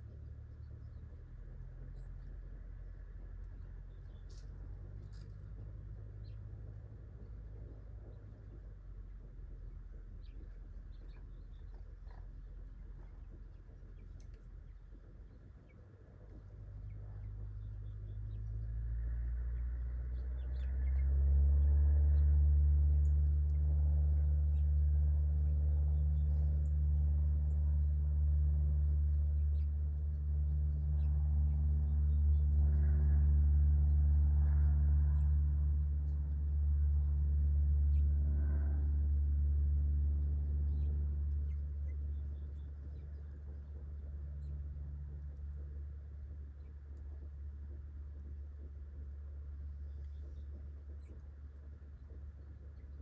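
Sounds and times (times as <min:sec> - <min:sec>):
low motor hum: 0:00.0 - 0:53.0.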